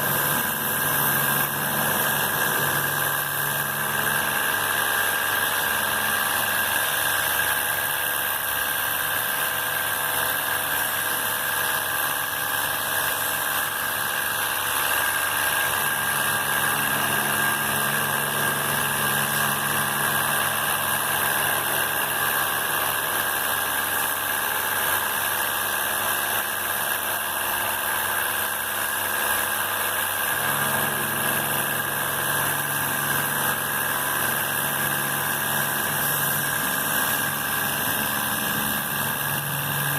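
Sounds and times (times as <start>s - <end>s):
pressure washer motor humming: 0.0s - 39.9s.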